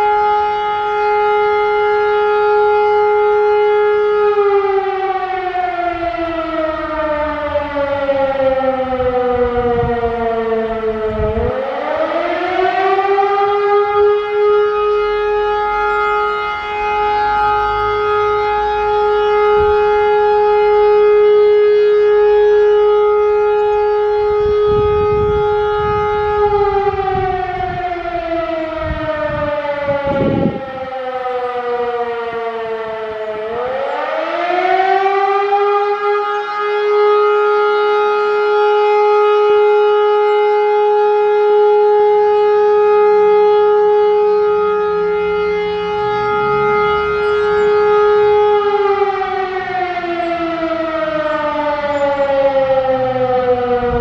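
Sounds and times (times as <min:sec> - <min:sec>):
siren howling: 0:00.0 - 0:54.0.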